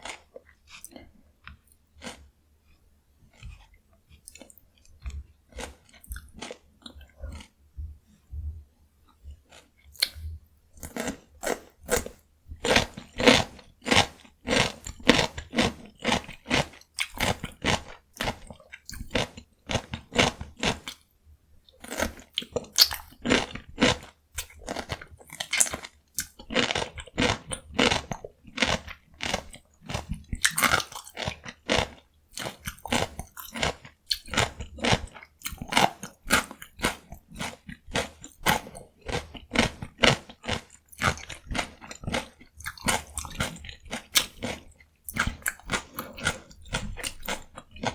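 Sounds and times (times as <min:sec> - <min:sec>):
crunching and chewing cucumber: 0:00.0 - 0:07.6, 0:09.0 - 0:47.9.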